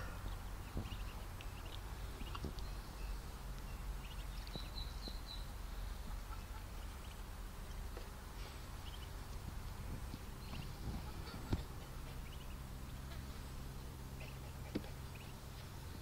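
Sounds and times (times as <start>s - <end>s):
ducklings peeping: 0.0s - 16.0s
low background rumble: 0.0s - 16.0s.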